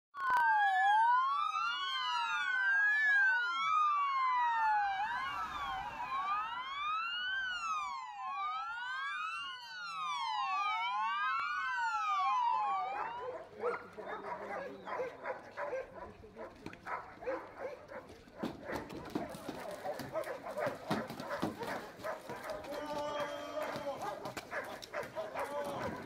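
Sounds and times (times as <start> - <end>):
emergency sirens wailing: 0.2 - 26.0.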